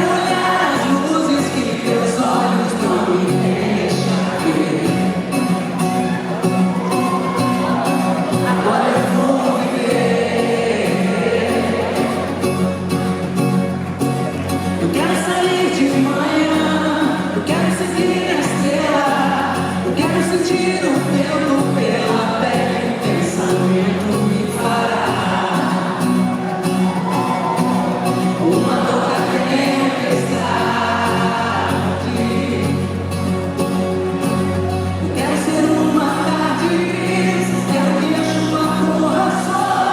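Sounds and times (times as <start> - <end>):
person singing: 0.0 - 6.0, 6.6 - 12.6, 14.8 - 33.8, 35.0 - 39.9.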